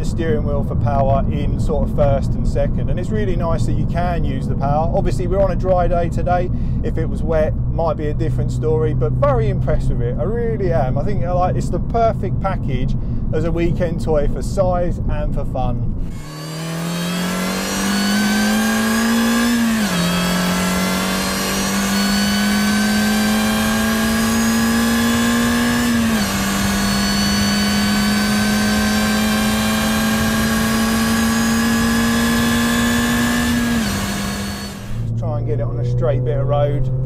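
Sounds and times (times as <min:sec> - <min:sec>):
car engine accelerating: 0:00.0 - 0:37.0
supercharger whine: 0:00.0 - 0:37.0.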